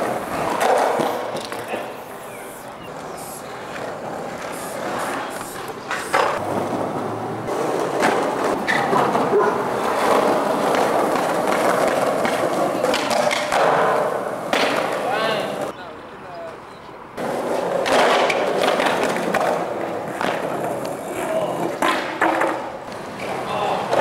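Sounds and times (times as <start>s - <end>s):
skateboard clacks: 0.0s - 2.2s, 2.9s - 15.7s, 17.2s - 24.0s
skateboard wheels rolling on concrete: 0.0s - 24.0s.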